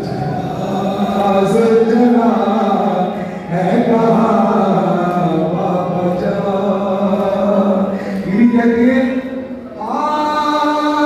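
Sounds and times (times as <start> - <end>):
person chanting lament over loudspeakers: 0.0 - 11.0.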